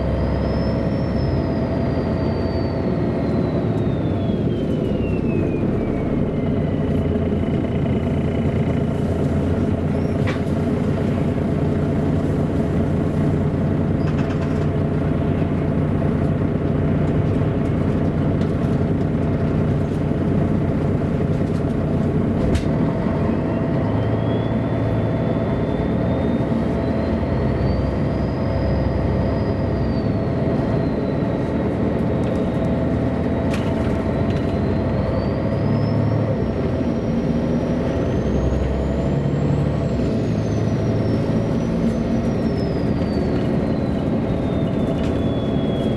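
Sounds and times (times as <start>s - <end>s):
bus engine running: 0.0s - 45.9s
road noise: 0.0s - 45.9s.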